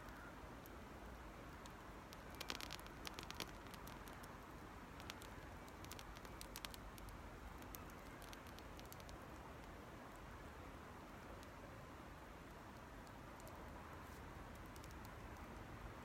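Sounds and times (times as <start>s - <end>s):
small wood fire crackling: 0.0s - 15.7s.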